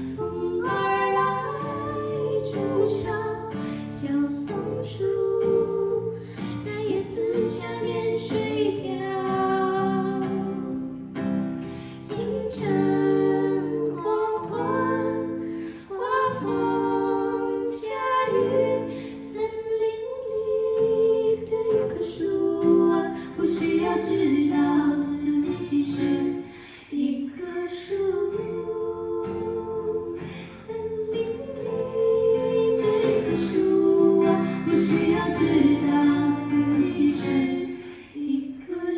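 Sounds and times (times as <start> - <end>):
plucked acoustic guitar: 0.0 - 26.7, 27.7 - 38.1
woman singing: 0.0 - 38.9.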